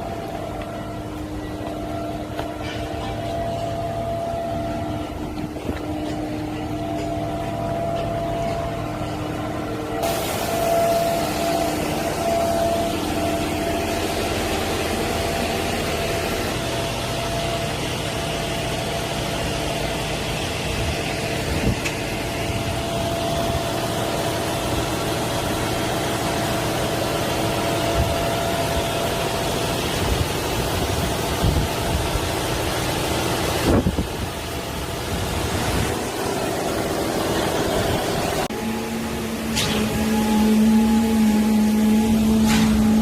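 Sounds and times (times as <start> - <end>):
steady whine: 0.0 - 43.0
truck engine rumbling: 0.0 - 43.0.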